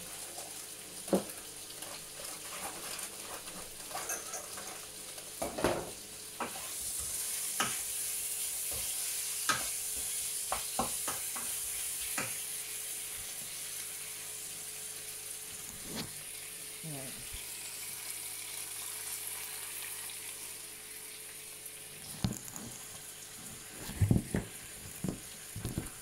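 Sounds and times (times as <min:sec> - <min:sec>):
chicken sizzling in a frying pan: 0:00.0 - 0:26.0.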